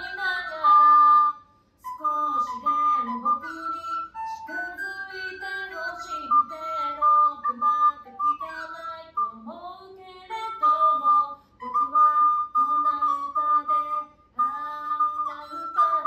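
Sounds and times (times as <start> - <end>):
recorder melody: 0.0 - 16.0
woman singing: 0.0 - 16.0.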